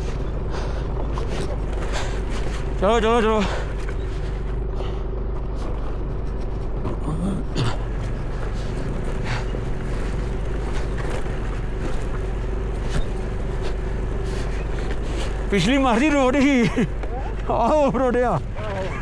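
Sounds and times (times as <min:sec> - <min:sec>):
motorbike engine running: 0:00.0 - 0:19.0
road and wind noise: 0:00.0 - 0:19.0.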